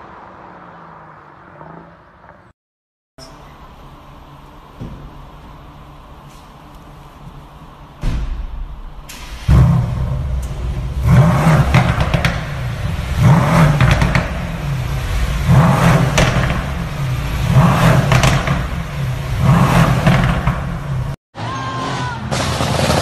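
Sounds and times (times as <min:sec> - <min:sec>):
car engine idling and revving: 0:03.2 - 0:21.2, 0:21.8 - 0:23.0.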